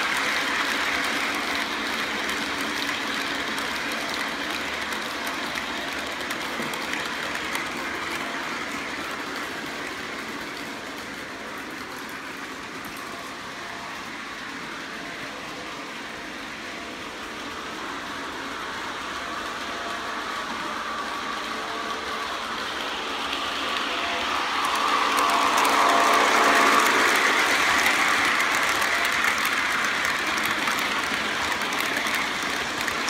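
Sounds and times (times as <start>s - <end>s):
model train running on track: 0.0s - 33.0s.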